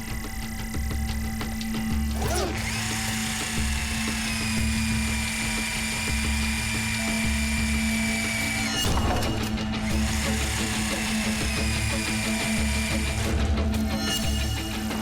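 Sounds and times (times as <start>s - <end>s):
high-pitched mechanical whine: 0.0s - 15.0s
music with low pulsing beat: 0.0s - 15.0s.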